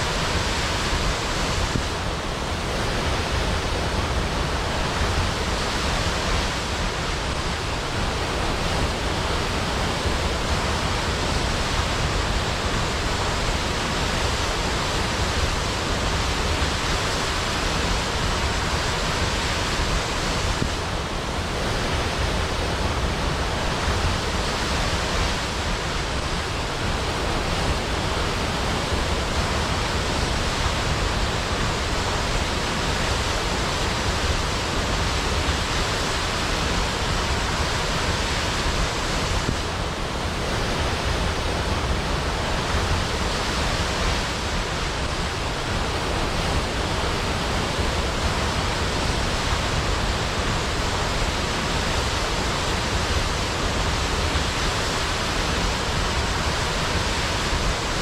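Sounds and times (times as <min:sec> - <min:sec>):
waterfall crashing into pool: 0:00.0 - 0:58.0.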